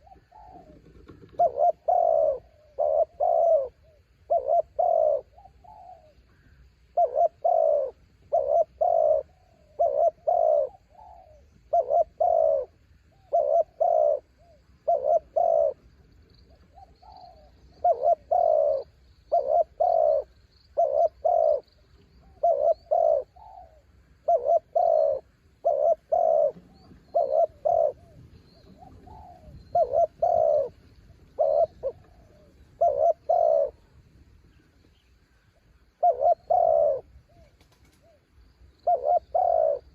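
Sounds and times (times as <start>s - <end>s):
dove cooing: 0.0s - 34.1s, 35.4s - 39.9s.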